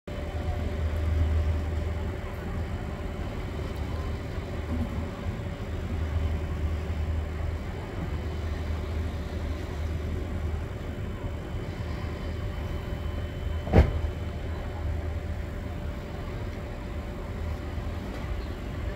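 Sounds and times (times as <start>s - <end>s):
distant engines droning: 0.1s - 18.9s.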